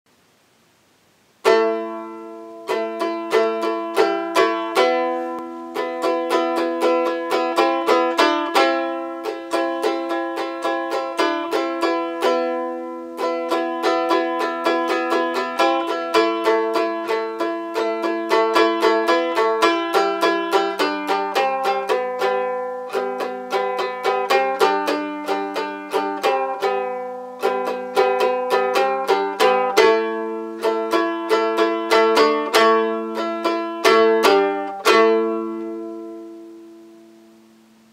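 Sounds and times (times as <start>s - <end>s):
lyre strummed chords: 1.4s - 37.9s.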